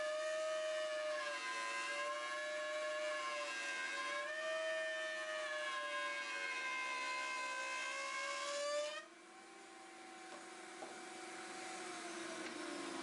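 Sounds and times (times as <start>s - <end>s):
router motor whine: 0.0s - 13.0s.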